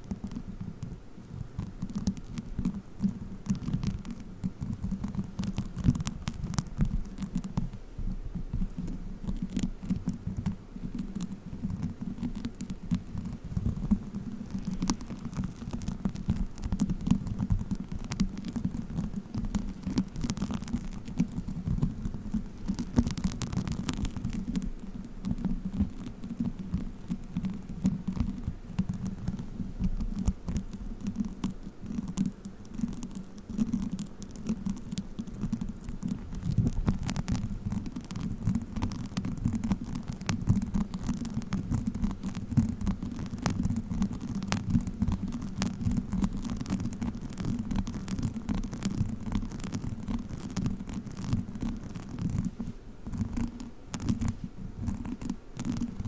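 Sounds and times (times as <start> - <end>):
play foam crackling and squishing: 11.0 - 56.0.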